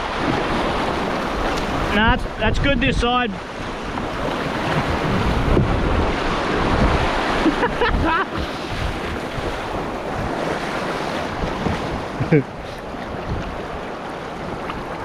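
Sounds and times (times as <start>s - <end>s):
river water rushing: 0.0s - 15.0s
wind noise on microphone: 0.0s - 15.0s.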